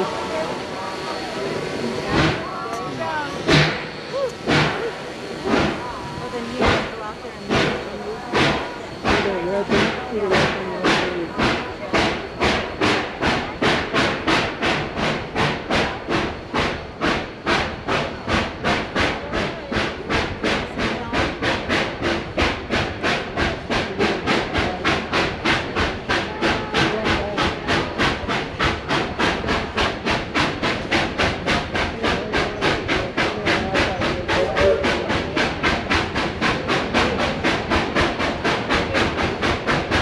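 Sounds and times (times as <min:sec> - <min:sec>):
steam locomotive chuffing: 0:00.0 - 0:40.0.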